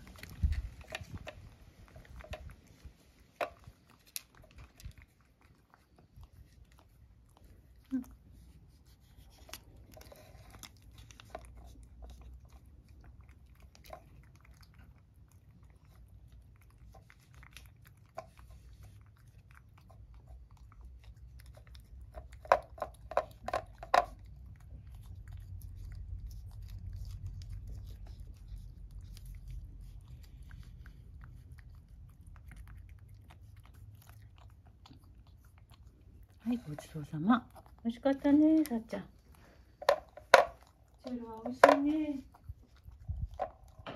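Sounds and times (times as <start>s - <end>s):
cat licking from a bowl: 0.0s - 43.9s.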